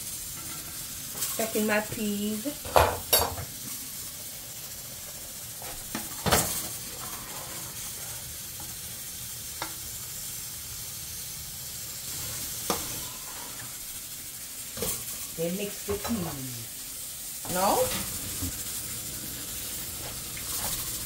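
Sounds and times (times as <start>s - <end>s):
sizzling hiss of cooking pots: 0.0s - 21.0s.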